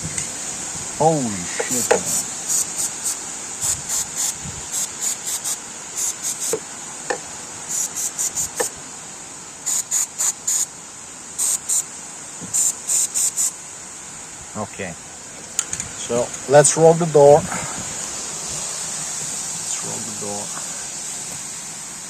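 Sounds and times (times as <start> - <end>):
insects buzzing: 0.0 - 22.0
insects chirping: 0.0 - 22.0.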